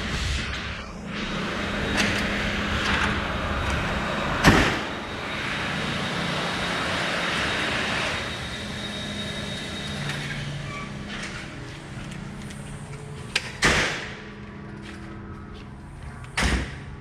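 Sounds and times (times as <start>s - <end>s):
road traffic noise: 0.0s - 17.0s
steady low hum: 0.0s - 17.0s.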